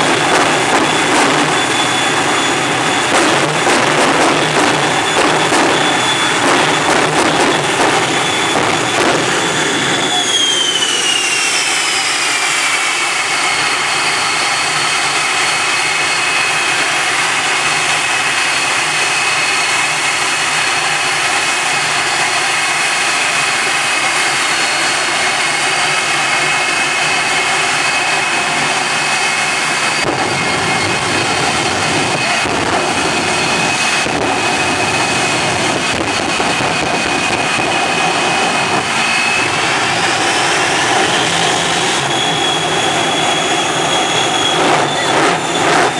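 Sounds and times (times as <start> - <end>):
jet engine roar and whine: 0.0 - 45.9.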